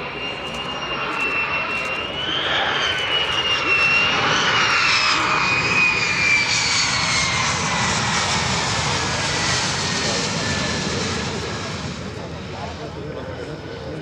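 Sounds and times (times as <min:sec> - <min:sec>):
fighter jet engine roar: 0:00.0 - 0:14.0.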